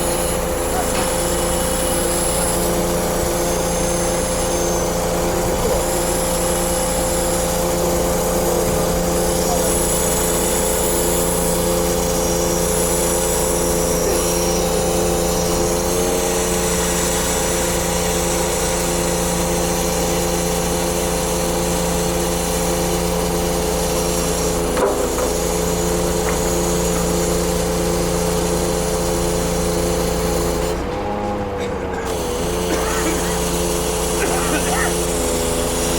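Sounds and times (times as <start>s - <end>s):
truck diesel engine running: 0.0s - 35.9s.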